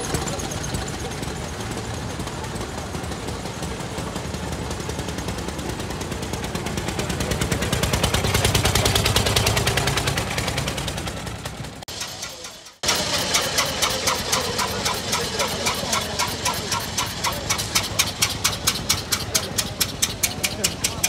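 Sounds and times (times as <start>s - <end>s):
old car engine popping exhaust: 0.0s - 21.0s.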